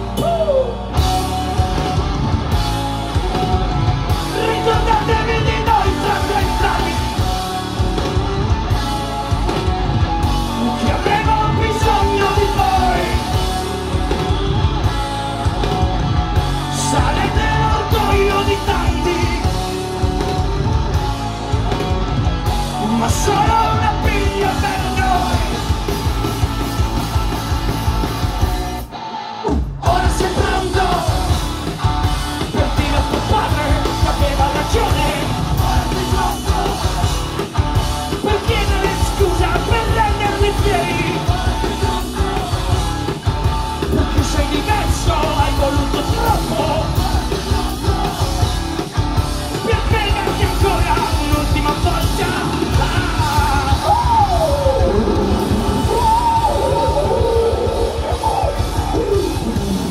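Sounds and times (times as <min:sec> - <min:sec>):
bass guitar: 0:00.0 - 0:59.9
distorted electric guitars: 0:00.0 - 0:59.9
drums: 0:00.0 - 0:59.9
rock vocals: 0:00.0 - 0:59.9.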